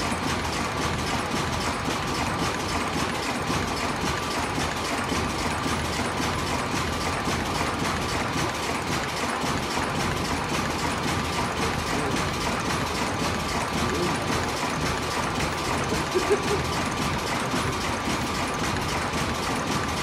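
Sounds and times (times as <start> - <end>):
rapid mechanical clatter: 0.0 - 20.0
steady machine tone: 0.0 - 20.0.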